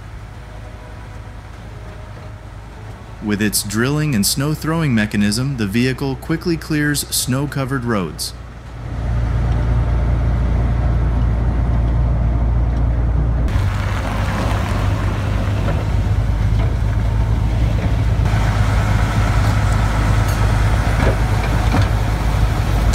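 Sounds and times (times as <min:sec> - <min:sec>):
truck engine rumbling: 0:00.0 - 0:22.9.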